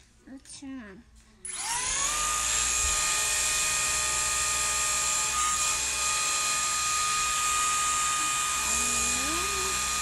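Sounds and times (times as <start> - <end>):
toy motor and propeller whine: 1.5 - 10.0.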